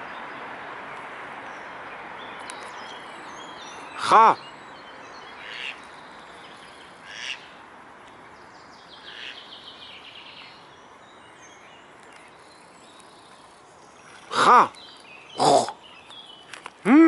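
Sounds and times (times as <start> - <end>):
bird chirping: 1.5 - 16.6.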